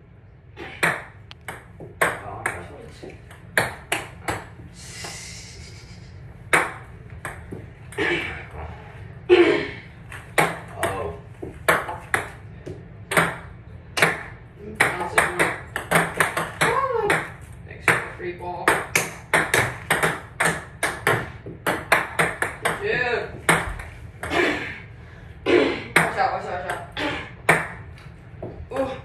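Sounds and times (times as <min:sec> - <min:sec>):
ping-pong balls bouncing: 0:00.6 - 0:04.7, 0:06.4 - 0:08.2, 0:10.1 - 0:24.6, 0:25.9 - 0:29.0.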